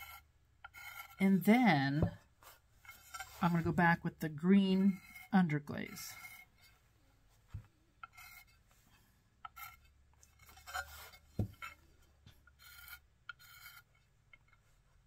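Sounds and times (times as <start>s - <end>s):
pencil scratching on clay: 0.0s - 6.8s, 8.0s - 14.8s.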